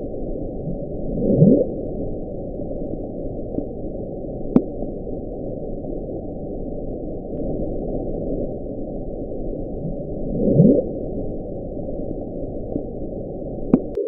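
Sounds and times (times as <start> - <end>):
underwater ocean rumble: 0.0 - 14.0.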